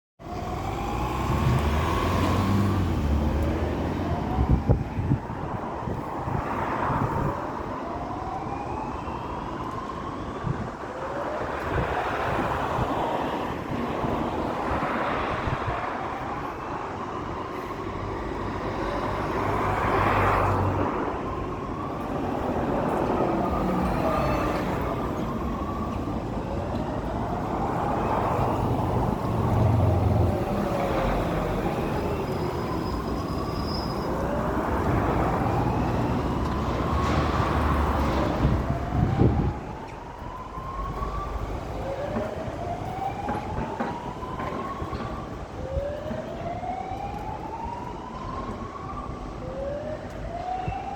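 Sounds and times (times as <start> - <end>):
road traffic: 0.2 - 50.9.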